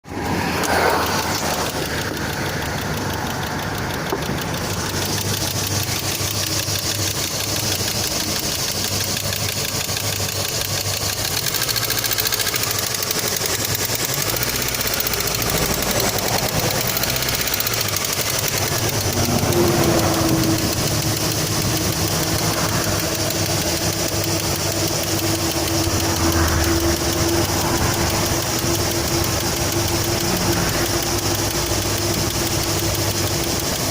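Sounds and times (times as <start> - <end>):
steady whine: 0.0 - 33.9
engine idling with knock: 0.1 - 33.9.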